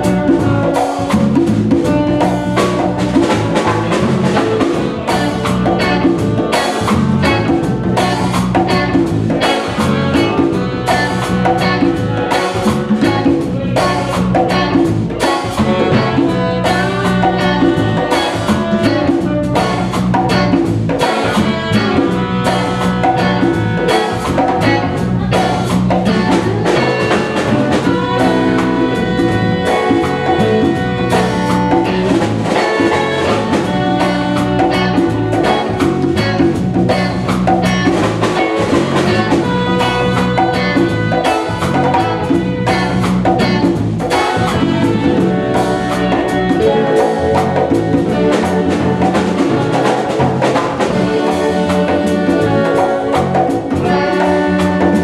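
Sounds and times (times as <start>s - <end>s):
drum kit: 0.0s - 55.0s
electric guitar: 0.0s - 55.0s
hand drum: 0.0s - 55.0s
saxophones playing: 0.0s - 55.0s.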